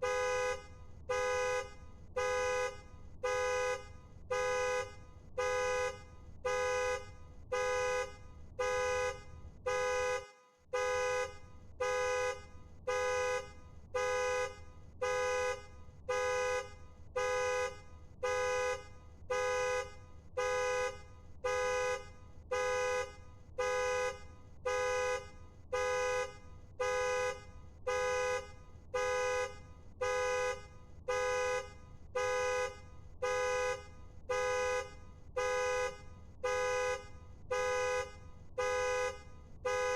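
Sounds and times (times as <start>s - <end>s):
car horn blasts from alarm: 0.0s - 39.9s.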